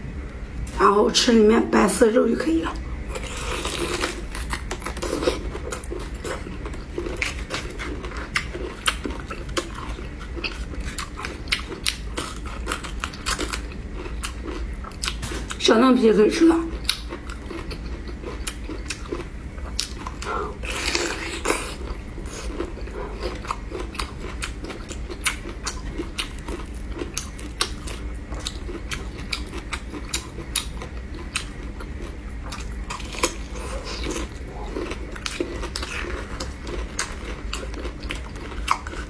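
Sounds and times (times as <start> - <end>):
chewing and biting food: 3.1 - 15.6, 16.7 - 39.0.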